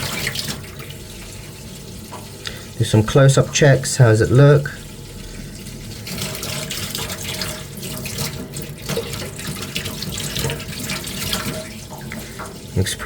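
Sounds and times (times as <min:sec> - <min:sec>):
water splashing in a basin: 0:00.0 - 0:13.0.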